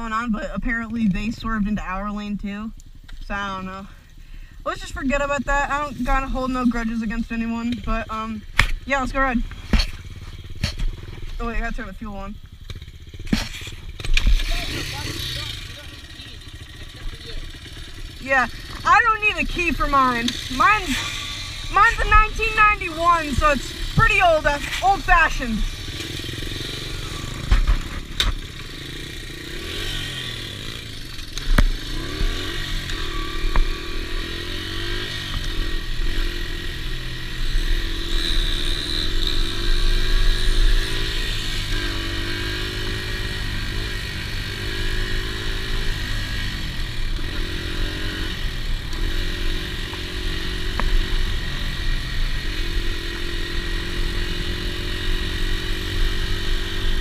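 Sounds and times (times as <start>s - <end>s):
dirt bike engine revving: 4.7s - 57.0s.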